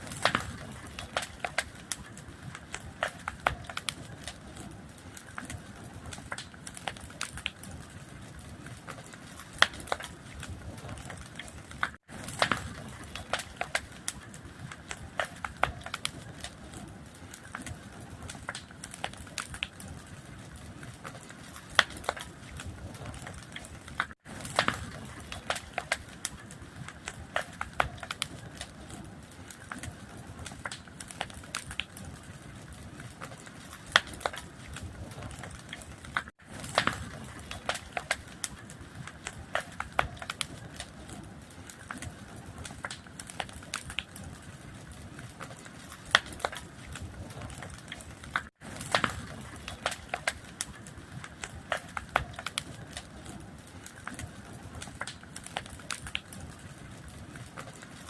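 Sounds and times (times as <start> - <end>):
fire crackling and popping: 0.0 - 58.0
low rush of flame: 0.0 - 58.0.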